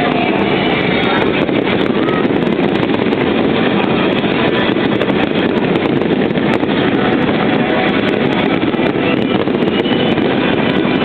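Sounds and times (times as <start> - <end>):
fireworks and crowd noise: 0.0 - 11.0.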